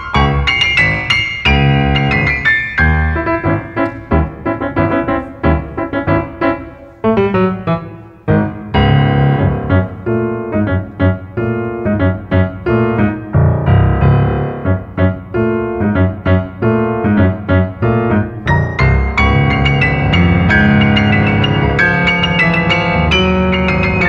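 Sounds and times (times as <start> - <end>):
grand piano playing: 0.0 - 24.0.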